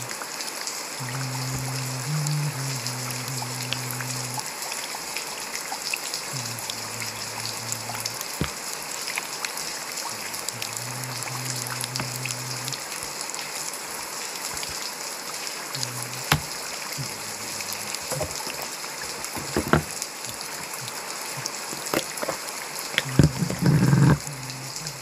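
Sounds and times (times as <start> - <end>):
rain drops tapping: 0.0 - 25.0.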